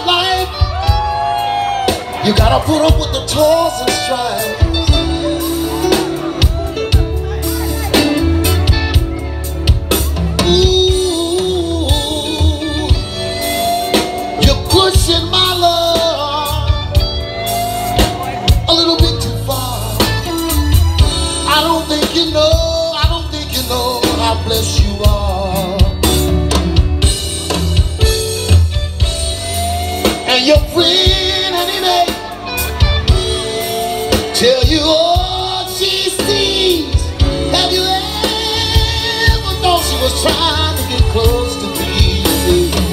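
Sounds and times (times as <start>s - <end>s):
bass: 0.0s - 42.9s
drum kit: 0.0s - 42.9s
electric guitar: 0.0s - 42.9s
keyboard: 0.0s - 42.9s
live band playing: 0.0s - 42.9s.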